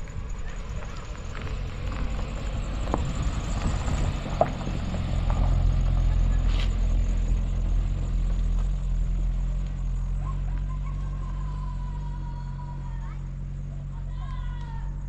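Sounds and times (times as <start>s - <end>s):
car engine running at low speed: 0.0s - 15.0s.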